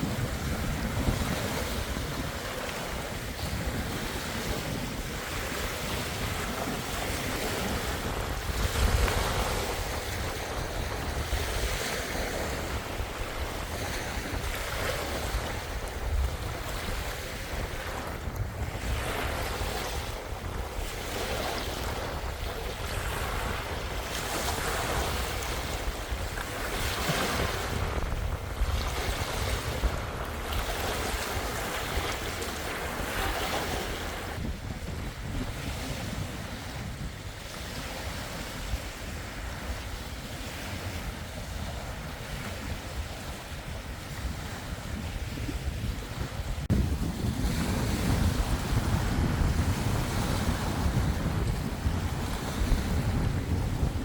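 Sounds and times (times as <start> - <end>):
lake waves washing onto shore: 0.0 - 54.0
wind rumbling on microphone: 0.0 - 54.0.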